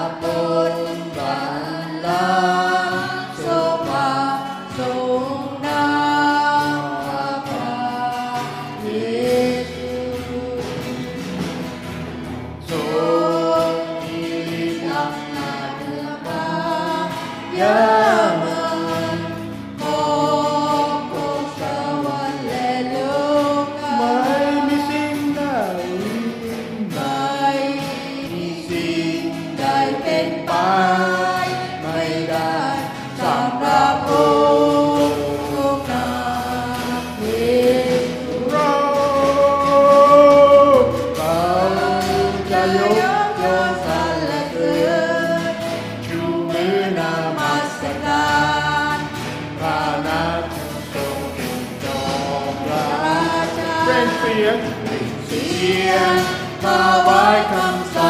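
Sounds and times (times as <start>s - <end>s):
group singing worship song: 0.0s - 58.0s.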